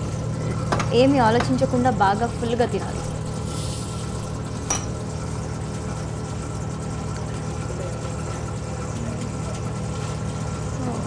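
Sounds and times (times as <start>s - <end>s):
cotton candy machine motor hum: 0.0s - 11.0s.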